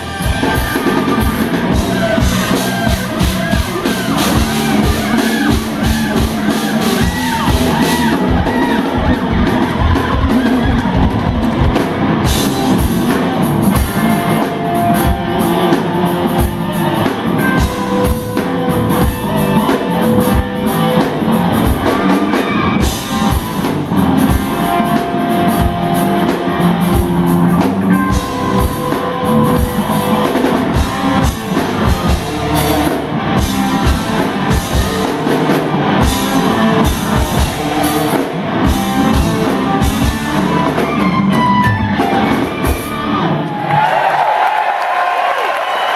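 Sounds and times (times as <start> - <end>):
bass guitar: 0.0 - 44.2
drum kit: 0.0 - 45.9
electric guitars: 0.0 - 45.9.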